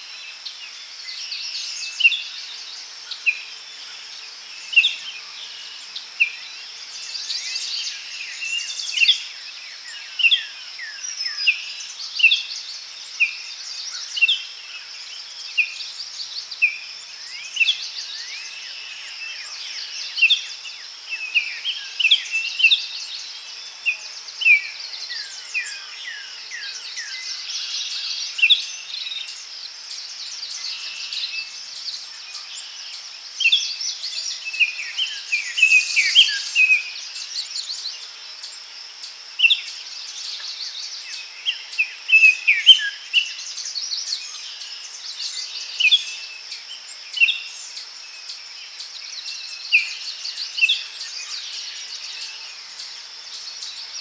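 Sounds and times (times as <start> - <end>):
insect hiss: 0.0 - 54.0
songbirds chirping: 0.0 - 54.0.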